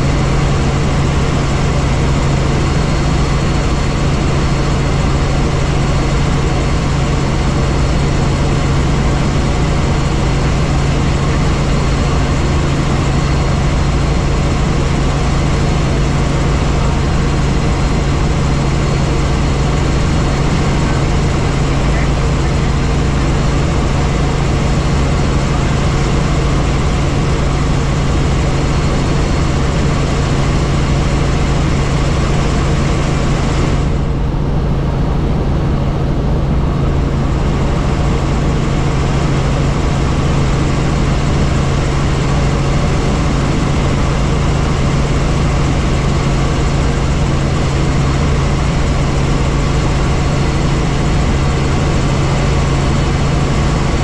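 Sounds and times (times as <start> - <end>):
helicopter turbine and rotor drone: 0.0 - 54.0.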